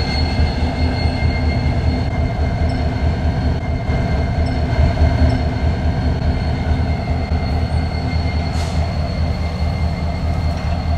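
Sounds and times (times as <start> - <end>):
high wheel squeal: 0.0 - 10.9
train rumbling over bridge: 0.0 - 10.9.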